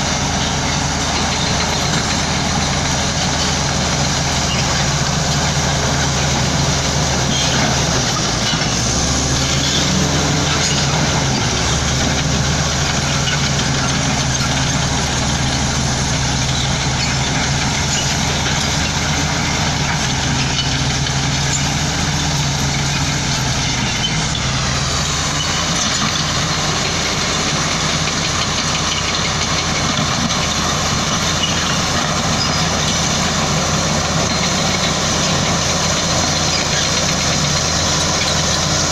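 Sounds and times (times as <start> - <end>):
diesel construction machinery running: 0.0 - 38.9.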